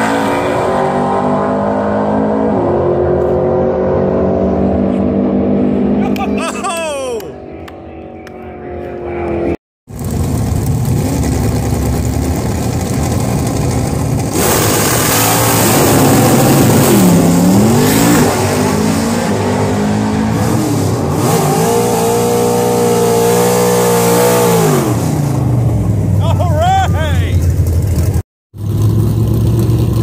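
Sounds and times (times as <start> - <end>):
racing car engine at high revs: 0.0 - 6.3, 7.4 - 25.7.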